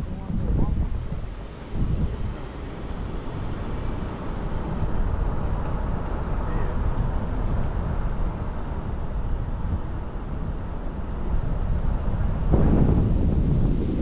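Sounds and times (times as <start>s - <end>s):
moving vehicle rumble: 0.0s - 14.0s
wind buffeting microphone: 0.0s - 14.0s.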